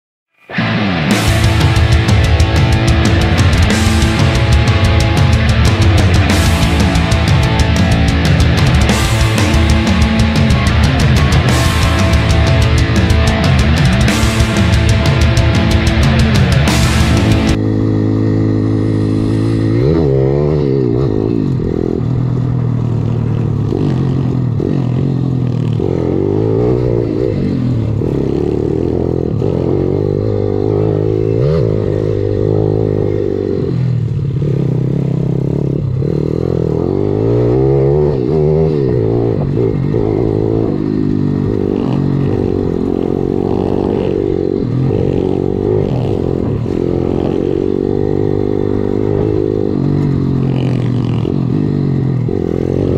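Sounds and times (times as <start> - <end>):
motorcycle engine revving: 0.3 - 52.9.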